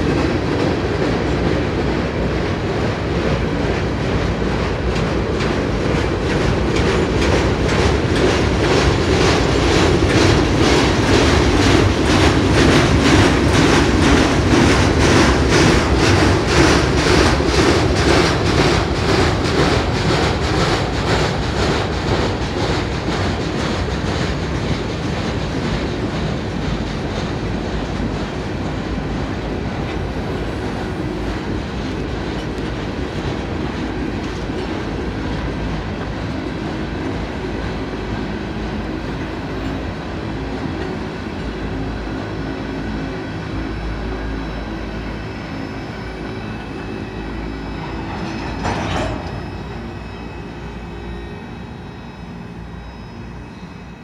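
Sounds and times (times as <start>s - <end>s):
freight train rolling on rails: 0.0s - 54.0s.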